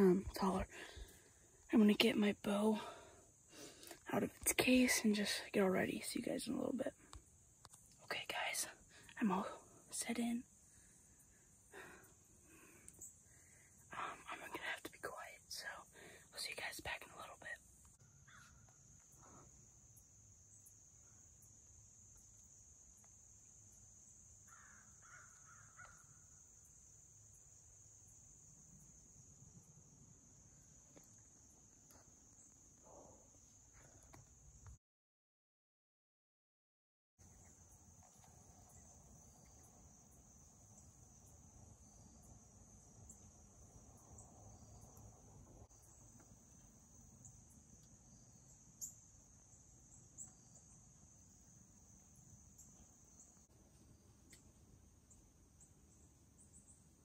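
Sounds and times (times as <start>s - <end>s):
crickets chirping: 0.0s - 34.8s, 37.2s - 57.0s.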